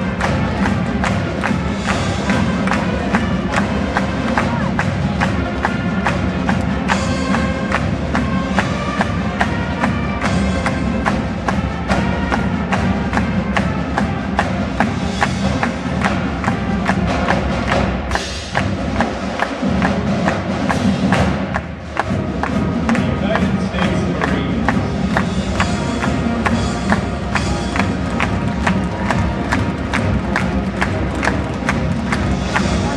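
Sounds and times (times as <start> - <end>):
brass and wind chords: 0.0 - 32.9
quick drum beat: 0.0 - 32.9.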